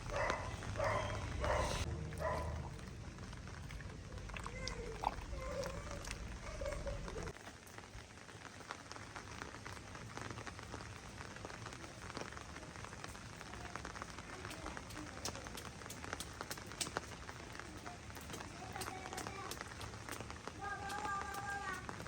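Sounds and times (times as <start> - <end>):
rain drops ticking: 0.0 - 22.0.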